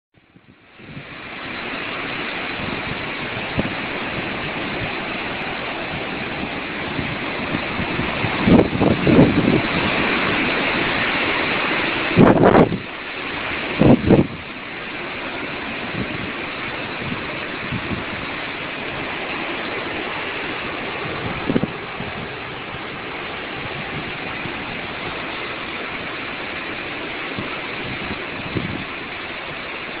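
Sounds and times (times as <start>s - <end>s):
wind and rain hissing: 0.2s - 30.0s
wind buffeting microphone: 0.2s - 30.0s.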